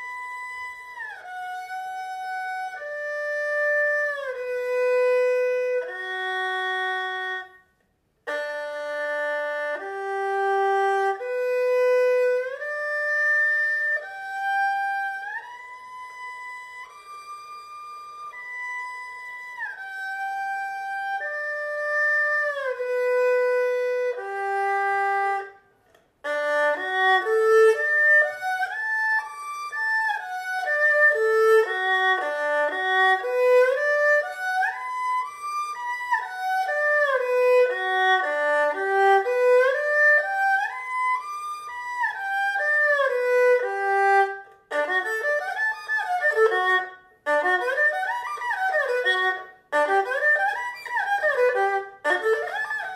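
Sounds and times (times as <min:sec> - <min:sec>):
erhu playing arpeggios: 0:00.0 - 0:52.9.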